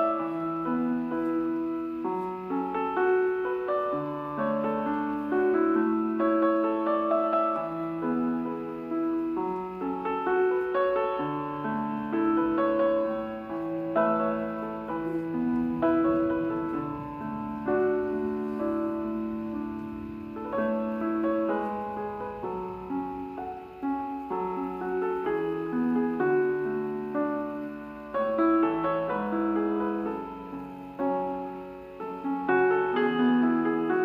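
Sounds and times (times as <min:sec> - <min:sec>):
gentle solo piano music: 0:00.0 - 0:34.0.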